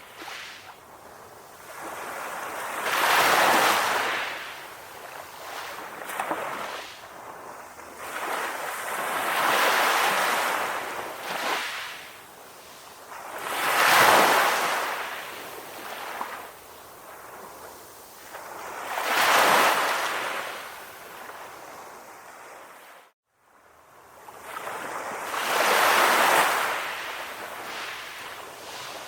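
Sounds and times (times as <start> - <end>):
sea waves washing in: 0.0 - 29.0.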